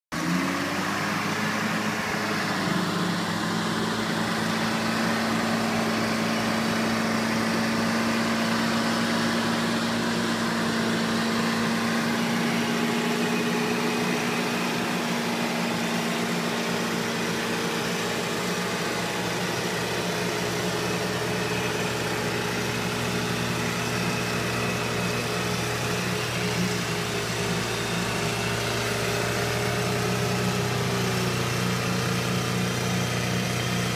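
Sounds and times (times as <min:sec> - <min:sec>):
vehicle engine running at low revs: 0:00.1 - 0:33.9.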